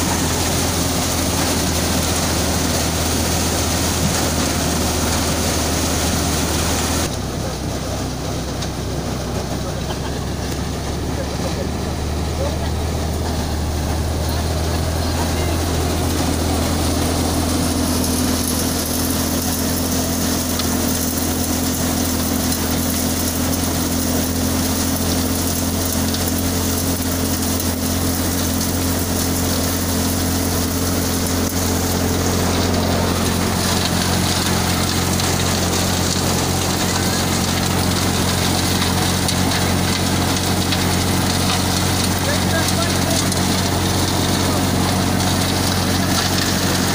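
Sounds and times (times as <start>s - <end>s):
thresher machine humming: 0.0s - 46.9s.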